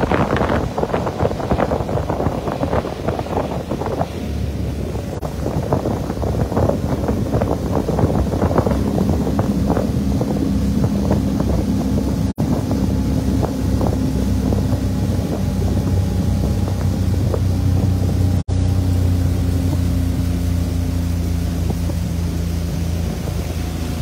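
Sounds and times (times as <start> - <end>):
choppy water splashing: 0.0 - 24.0
outboard motor droning: 0.0 - 24.0
rushing water: 0.0 - 24.0
wind buffeting microphone: 0.0 - 24.0.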